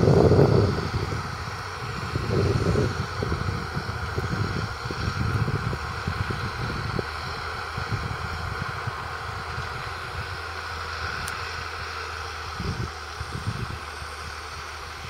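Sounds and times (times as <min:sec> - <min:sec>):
diesel engine running steadily: 0:00.0 - 0:15.0
wind buffeting microphone: 0:00.0 - 0:15.0.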